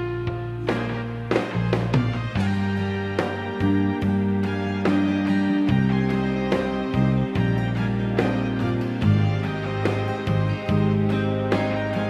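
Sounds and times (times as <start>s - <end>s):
soft instrumental ballad: 0.0s - 12.0s.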